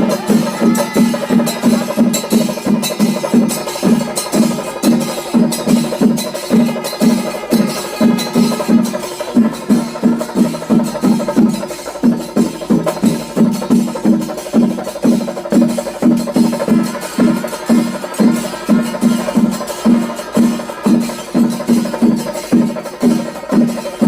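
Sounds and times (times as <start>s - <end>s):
drums beating: 0.0s - 24.0s
hand cymbals clashing: 0.0s - 24.0s.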